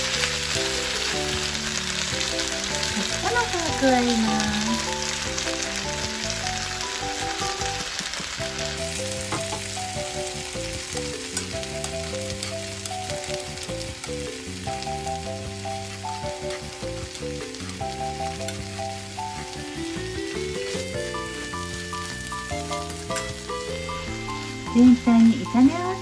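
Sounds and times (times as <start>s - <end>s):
chopsticks stirring: 0.0s - 26.0s
egg sizzling in frying pan: 0.0s - 26.0s.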